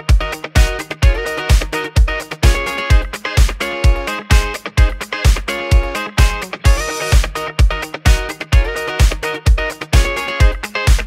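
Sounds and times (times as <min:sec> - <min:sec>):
kick drum: 0:00.0 - 0:11.0
synth chords: 0:00.0 - 0:11.0.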